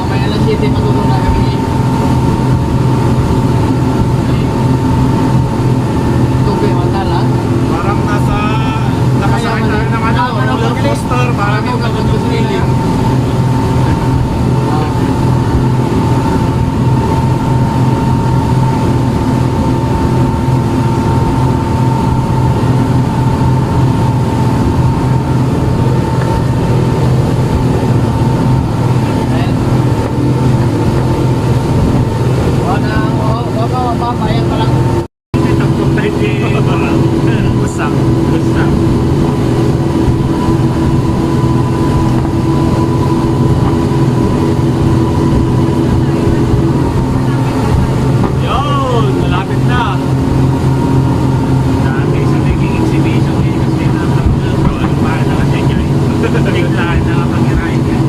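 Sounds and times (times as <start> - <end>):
speedboat engine drone: 0.0 - 58.0
thin steady whine: 0.0 - 58.0.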